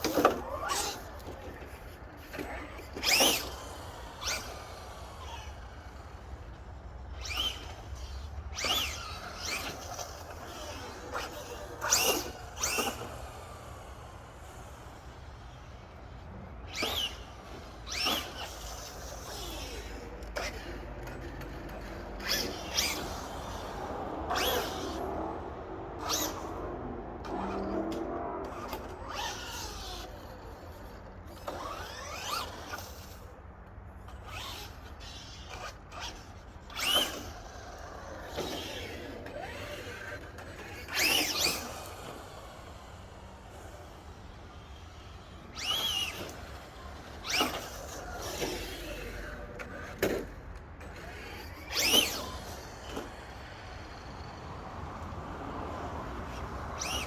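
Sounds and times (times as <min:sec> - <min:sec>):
electric motor whining up: 0:00.0 - 0:33.3, 0:34.1 - 0:57.0.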